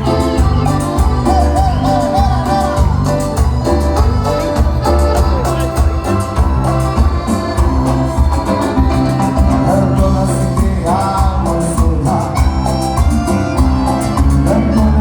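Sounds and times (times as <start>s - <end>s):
keyboard chords: 0.0s - 15.0s
pulsing bass beat: 0.0s - 15.0s.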